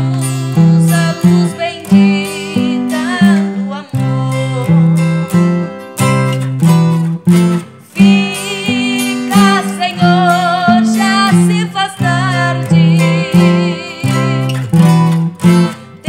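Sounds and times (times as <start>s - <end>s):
woman singing with vibrato: 0.0s - 5.2s, 7.7s - 16.0s
strummed acoustic guitar: 0.0s - 16.0s.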